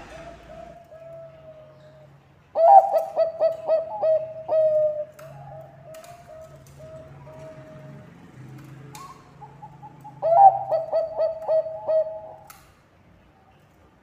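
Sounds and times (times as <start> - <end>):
dove cooing: 0.0 - 12.5.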